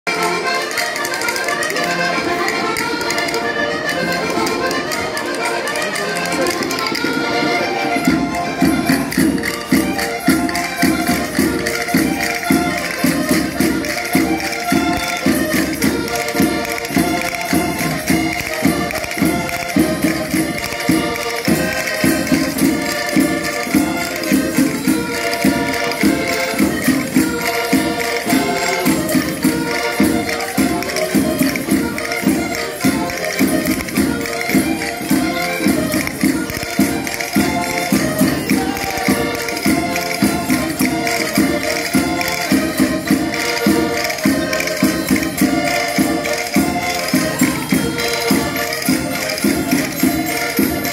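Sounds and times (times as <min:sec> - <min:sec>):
button accordion playing tune: 0:00.1 - 0:50.9
hand percussion: 0:00.1 - 0:50.9
people clapping: 0:00.1 - 0:50.9.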